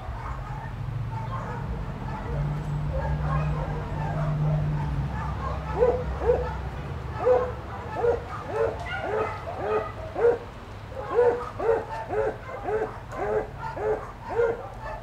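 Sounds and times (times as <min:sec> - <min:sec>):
dog barking: 0:00.0 - 0:15.0.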